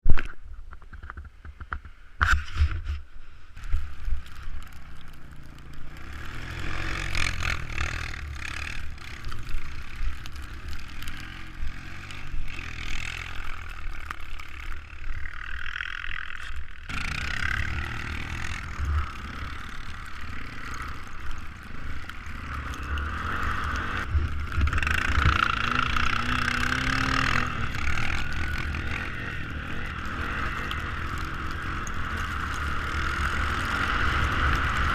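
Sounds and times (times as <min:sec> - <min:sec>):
small engines revving: 0:04.6 - 0:34.9.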